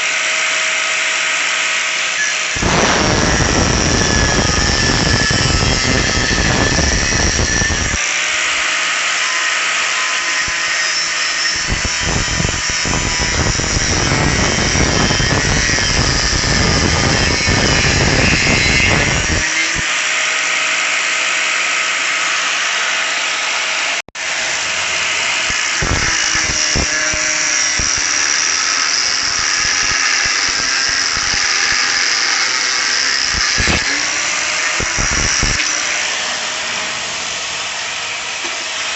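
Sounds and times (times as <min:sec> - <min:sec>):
power tool cutting steel: 0:00.0 - 0:38.9.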